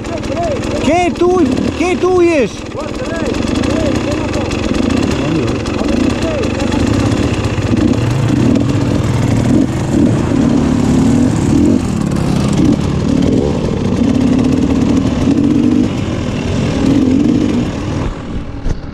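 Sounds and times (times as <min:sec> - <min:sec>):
motorbike engine revving: 0:00.0 - 0:18.9.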